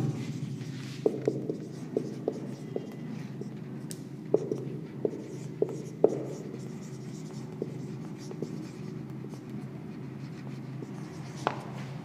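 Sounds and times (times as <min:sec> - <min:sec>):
marker pen writing on whiteboard: 0:00.0 - 0:12.0.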